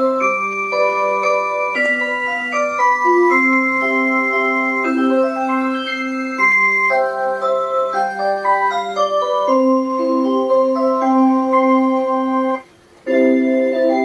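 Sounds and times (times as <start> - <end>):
musical clock organ-like melody: 0.0 - 14.0.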